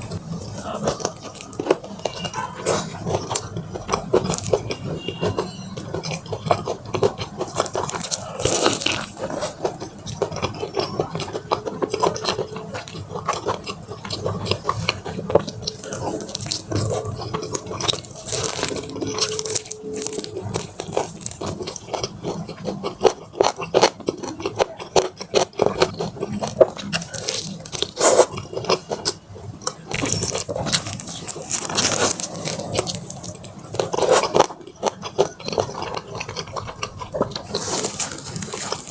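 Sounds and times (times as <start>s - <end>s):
crunchy chewing of fried chicken: 0.0s - 38.9s.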